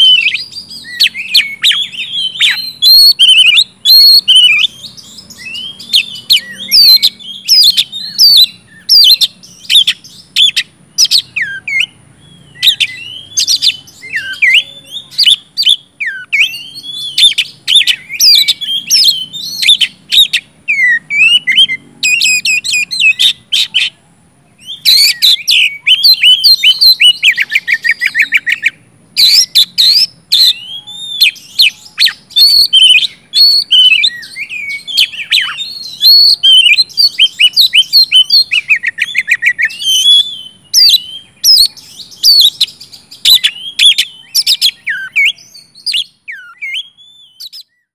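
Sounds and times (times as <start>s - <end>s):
magpie-robin singing: 0.0s - 47.9s.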